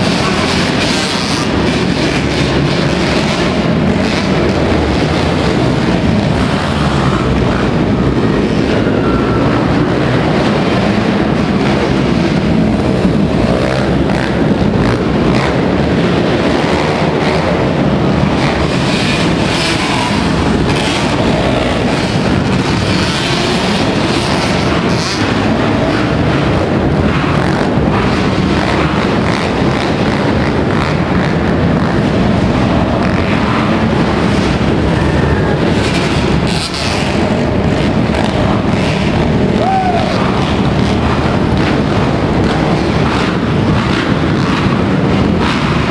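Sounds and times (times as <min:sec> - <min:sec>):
motorcycle engines roaring: 0:00.0 - 0:45.9.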